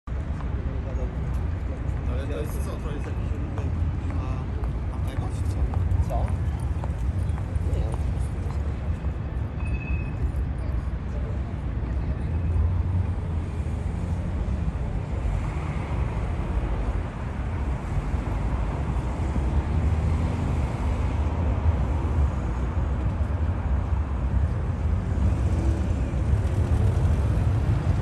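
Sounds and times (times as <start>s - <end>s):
traffic rumble: 0.1s - 28.0s.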